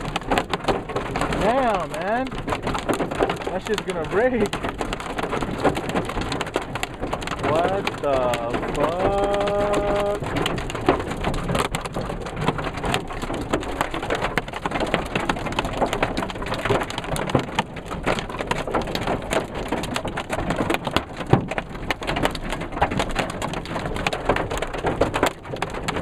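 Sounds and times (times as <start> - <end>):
hail drumming on car roof: 0.0 - 26.0.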